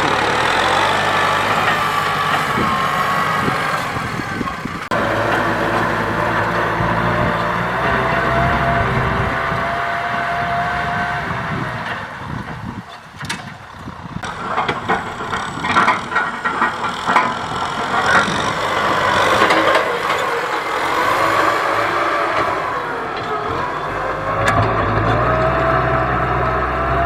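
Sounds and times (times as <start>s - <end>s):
knocks and rattles: 0.0s - 10.0s, 11.8s - 23.7s
tractor diesel engine running: 0.0s - 27.0s.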